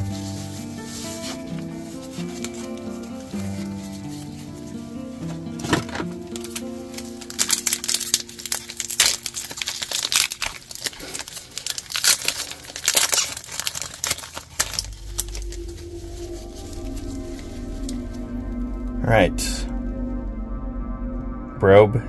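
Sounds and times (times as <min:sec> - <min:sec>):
wrapper crinkling and tearing: 0:00.0 - 0:18.4
background music: 0:00.0 - 0:22.0.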